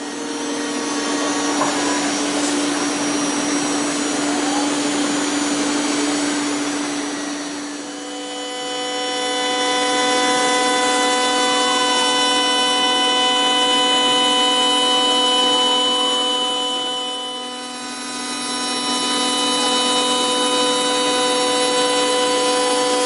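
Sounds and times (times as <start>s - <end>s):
multi-tone whine: 0.0s - 23.0s
vacuum pump humming and hissing: 0.0s - 23.0s.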